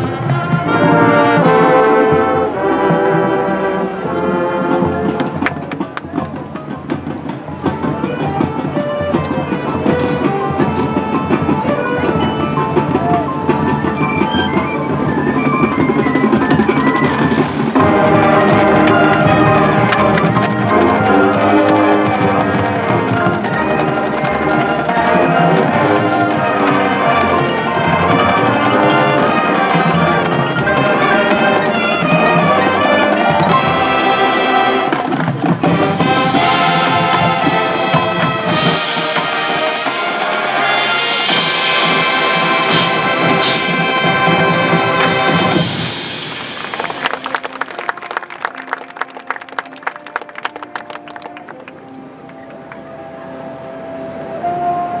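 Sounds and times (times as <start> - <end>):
drumline percussion: 0.0 - 51.8
marching band playing: 0.0 - 53.8.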